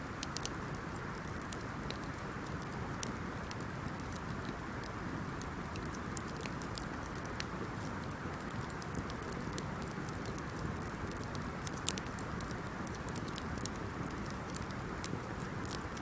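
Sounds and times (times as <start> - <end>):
bonfire flames rushing: 0.0 - 16.0
fire crackles and pops: 0.0 - 16.0.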